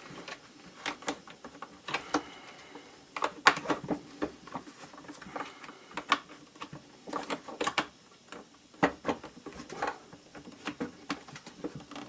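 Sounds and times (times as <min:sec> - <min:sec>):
plastic parts clicking and knocking: 0:00.1 - 0:12.0.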